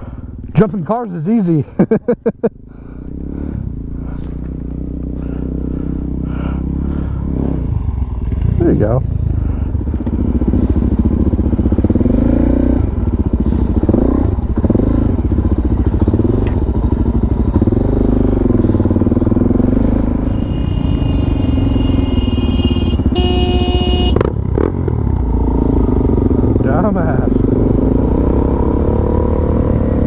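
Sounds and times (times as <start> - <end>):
dirt bike engine revving: 2.7 - 30.0.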